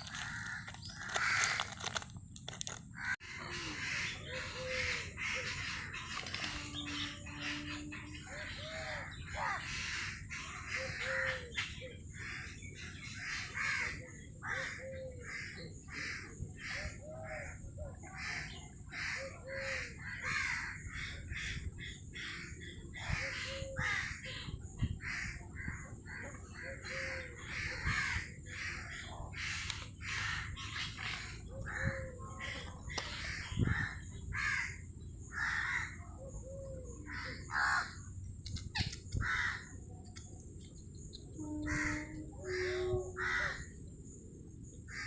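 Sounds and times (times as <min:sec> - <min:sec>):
crows cawing: 0:00.0 - 0:02.0, 0:03.0 - 0:11.5, 0:12.2 - 0:17.6, 0:18.2 - 0:24.2, 0:25.0 - 0:36.0, 0:37.1 - 0:38.0, 0:39.2 - 0:39.7, 0:41.6 - 0:43.7.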